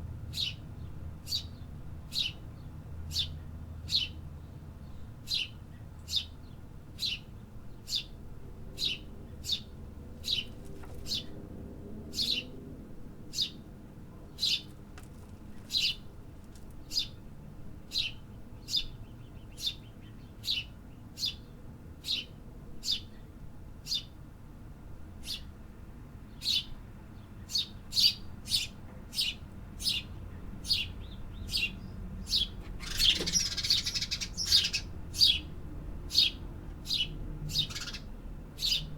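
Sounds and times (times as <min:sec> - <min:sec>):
faint low urban rumble: 0:00.0 - 0:38.9
small bird chirping: 0:00.3 - 0:04.2, 0:04.8 - 0:08.2, 0:08.8 - 0:11.4, 0:12.1 - 0:12.5, 0:13.3 - 0:13.6, 0:14.3 - 0:14.7, 0:15.4 - 0:16.1, 0:16.8 - 0:17.2, 0:17.9 - 0:24.2, 0:25.2 - 0:25.5, 0:26.3 - 0:38.9.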